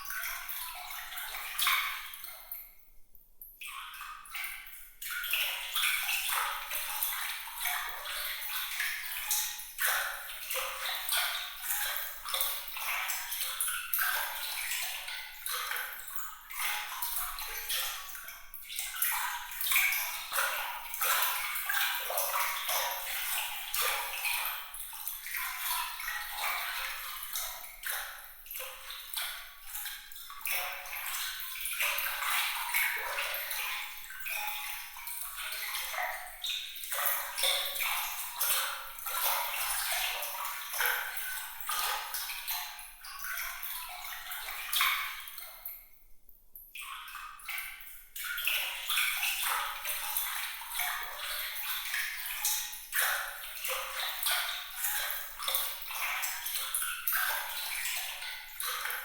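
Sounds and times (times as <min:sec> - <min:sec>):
water trickling and splashing: 0:00.0 - 0:02.8, 0:03.4 - 0:46.0, 0:46.8 - 0:59.0.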